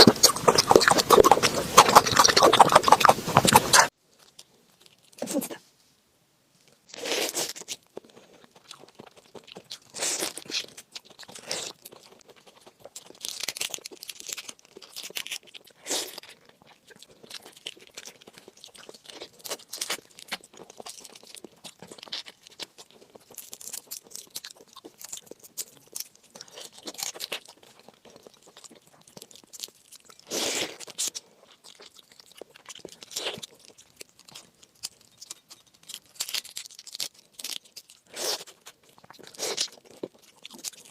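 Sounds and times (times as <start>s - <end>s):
crunchy chewing: 0.0s - 5.2s, 6.9s - 40.9s.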